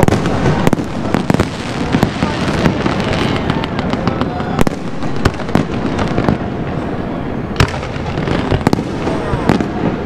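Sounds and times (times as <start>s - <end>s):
fireworks sharp bangs: 0.0s - 6.8s, 7.5s - 10.0s
fireworks crackle and hiss: 0.0s - 10.0s.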